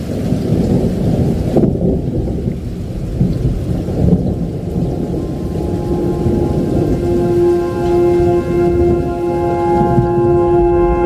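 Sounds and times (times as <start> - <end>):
rain falling: 0.0 - 11.0
thunder rumbling: 0.0 - 11.0.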